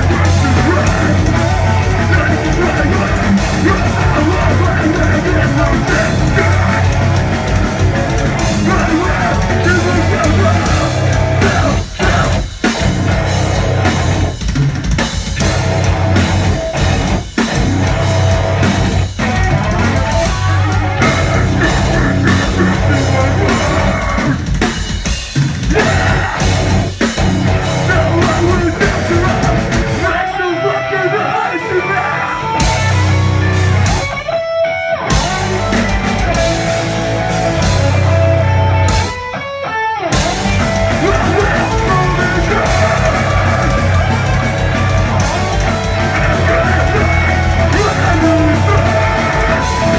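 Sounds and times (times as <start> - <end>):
drum kit: 0.0 - 30.4, 31.4 - 39.5, 40.1 - 49.9
distorted electric guitars: 0.0 - 49.9
live heavy rock band: 0.0 - 49.9.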